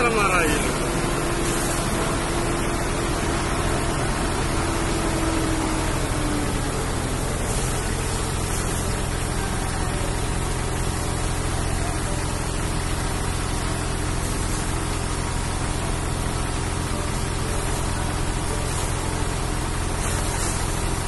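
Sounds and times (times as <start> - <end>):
fire rushing hiss: 0.0 - 21.0.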